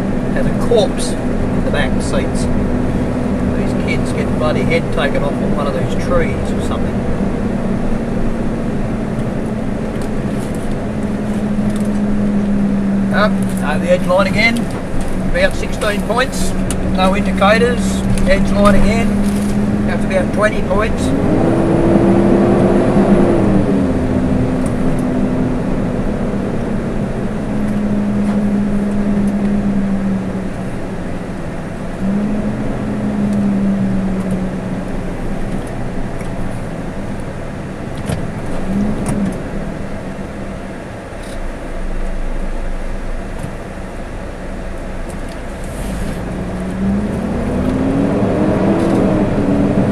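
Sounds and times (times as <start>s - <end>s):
road noise: 0.0s - 49.9s
vehicle engine from inside cab: 0.0s - 49.9s.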